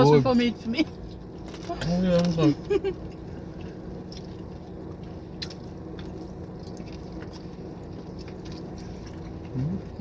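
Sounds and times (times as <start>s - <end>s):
low background rumble: 0.0s - 10.0s
person chewing food: 0.9s - 10.0s.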